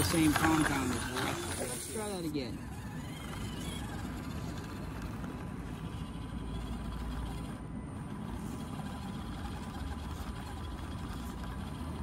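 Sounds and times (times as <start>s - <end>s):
small electric motor and gears running: 0.0s - 12.0s.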